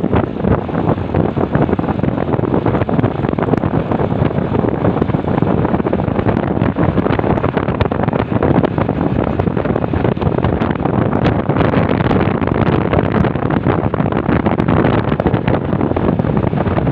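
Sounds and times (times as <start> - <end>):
road and traffic noise: 0.0 - 16.9
wind buffeting microphone: 0.0 - 16.9.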